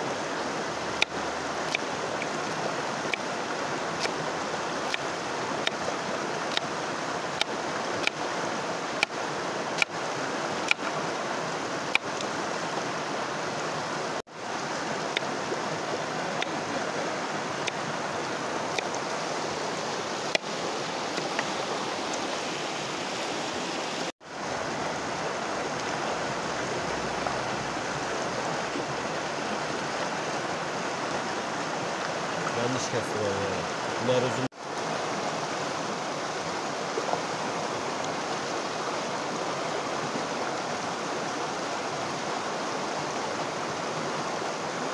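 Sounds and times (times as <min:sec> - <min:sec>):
creek flowing over stones: 0:00.0 - 0:44.9.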